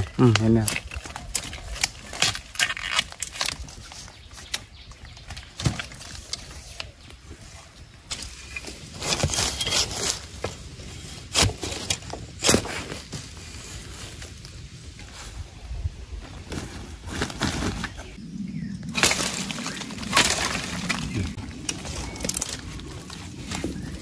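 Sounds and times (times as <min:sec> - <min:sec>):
leaves and undergrowth rustling: 0:00.0 - 0:24.0.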